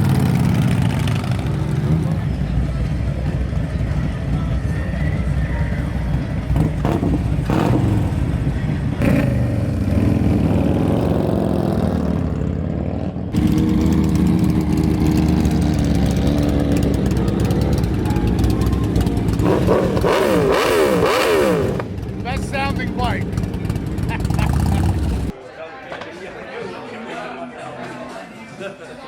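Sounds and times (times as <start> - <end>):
motorcycle engine running: 0.0 - 25.3.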